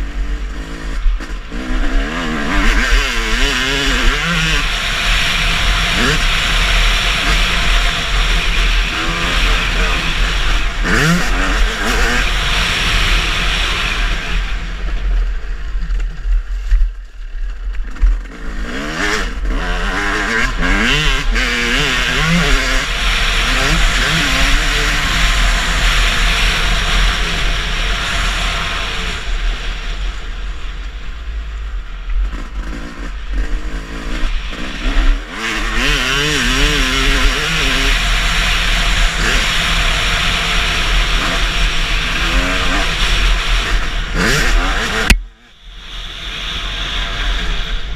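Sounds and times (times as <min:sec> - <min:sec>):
motocross bike engines revving: 0:00.0 - 0:47.9
steady rush of noise: 0:00.0 - 0:47.9.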